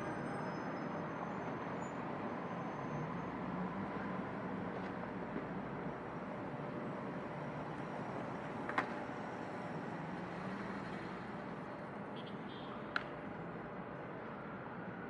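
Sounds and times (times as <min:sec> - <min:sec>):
passing cars and buses: 0:00.0 - 0:15.0.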